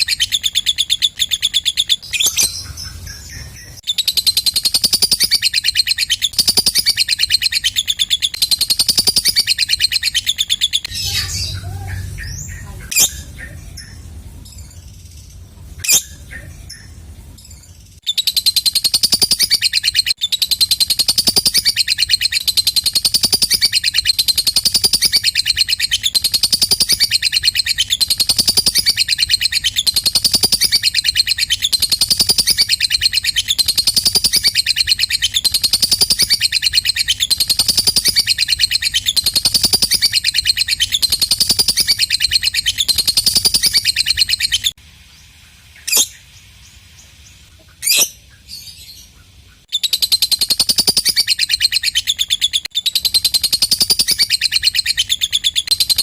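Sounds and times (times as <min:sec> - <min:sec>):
bird rapid high chatter: 0:00.0 - 0:44.8, 0:49.4 - 0:56.0.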